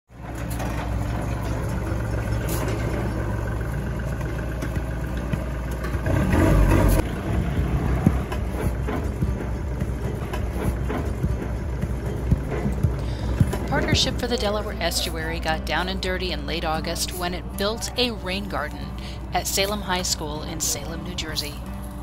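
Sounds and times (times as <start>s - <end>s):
engine rumbling: 0.1s - 22.0s.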